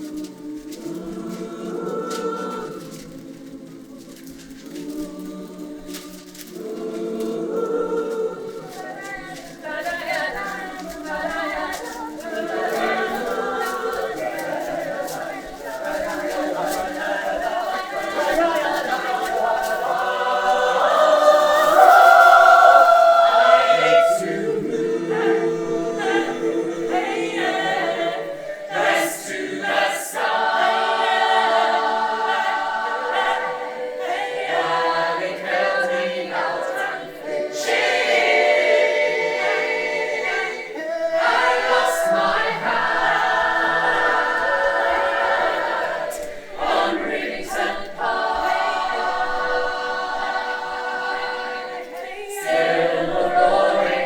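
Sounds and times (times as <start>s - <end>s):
choir singing in harmony: 0.0s - 54.0s.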